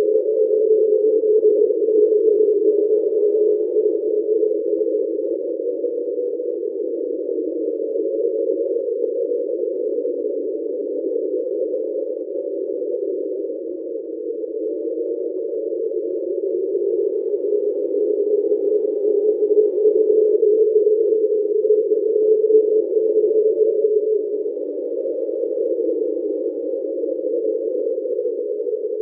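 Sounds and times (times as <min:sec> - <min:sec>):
low underwater drone: 0:00.1 - 0:29.0.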